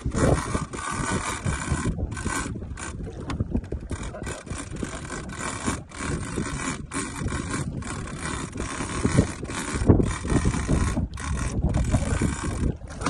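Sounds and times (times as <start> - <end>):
fishing reel cranking: 0.0 - 13.0
wind rumbling on microphone: 0.0 - 13.0.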